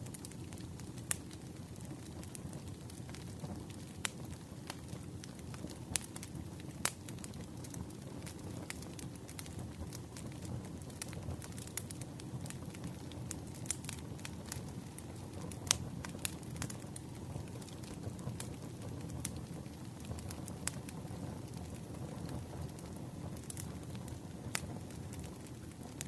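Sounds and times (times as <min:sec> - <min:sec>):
crackles and pops of burning wood: 0:00.0 - 0:26.0
low rumble of flames: 0:00.0 - 0:26.0.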